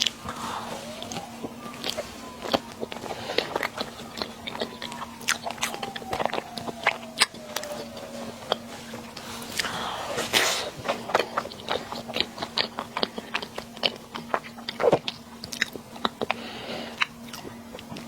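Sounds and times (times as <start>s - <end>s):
chewing and biting: 0.0s - 18.0s
faint steady hum: 0.0s - 18.0s
mouth clicks and smacks: 0.0s - 18.0s.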